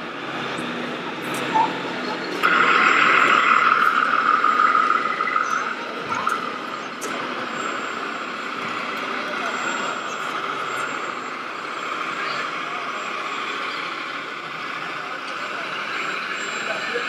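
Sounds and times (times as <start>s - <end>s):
crowd chatter: 0.0s - 17.0s
hissing mechanical noise: 0.0s - 17.0s
model trucks running: 0.0s - 17.0s.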